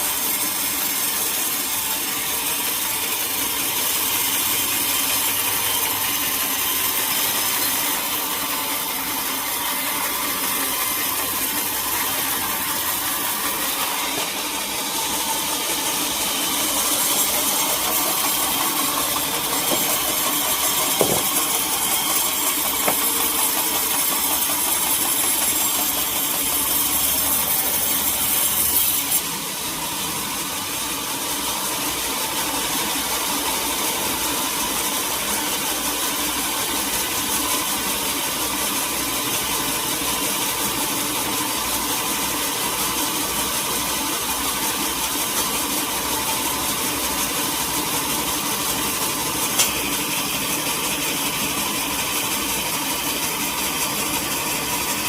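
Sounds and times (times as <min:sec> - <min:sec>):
mill machinery running: 0:00.0 - 0:55.0
saw blade cutting log: 0:00.0 - 0:55.0.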